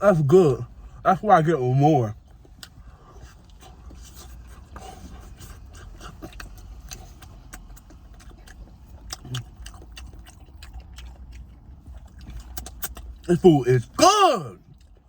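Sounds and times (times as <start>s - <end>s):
chewing: 1.7s - 15.0s.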